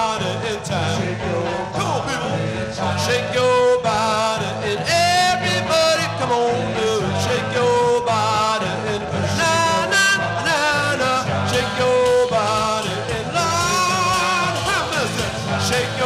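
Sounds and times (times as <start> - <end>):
rock and roll band playing: 0.0 - 16.0.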